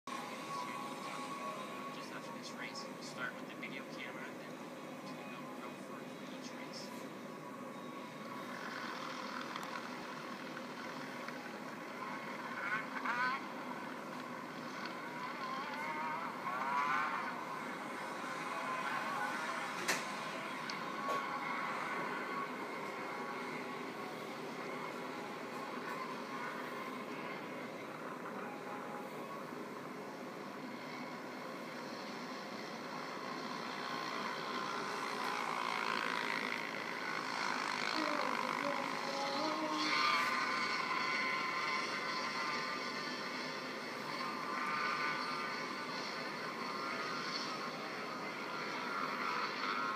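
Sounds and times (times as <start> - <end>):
distant off-road vehicle engines: 0.1 - 49.9.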